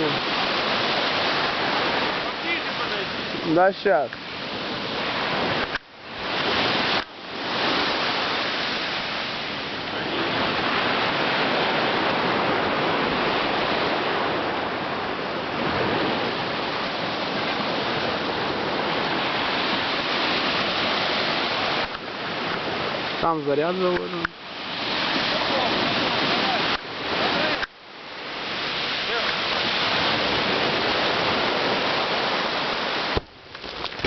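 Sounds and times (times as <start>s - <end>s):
steady rushing noise: 0.0s - 34.0s.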